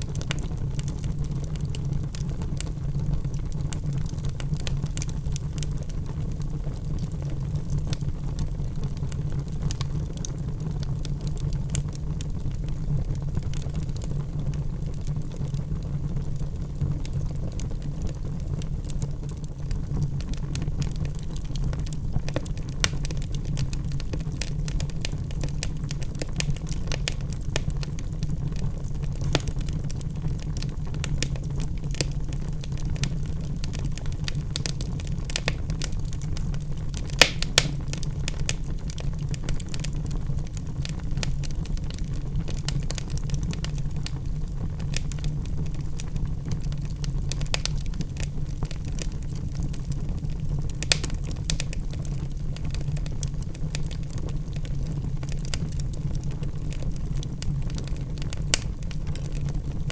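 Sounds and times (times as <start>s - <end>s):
burning wood crackling and popping: 0.0s - 59.9s
flames roaring: 0.0s - 59.9s.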